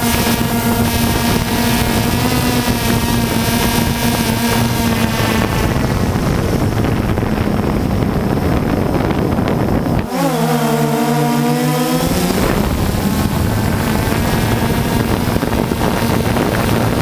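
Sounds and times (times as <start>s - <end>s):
drone rotor whine: 0.0s - 17.0s
wind buffeting on microphone: 0.0s - 17.0s.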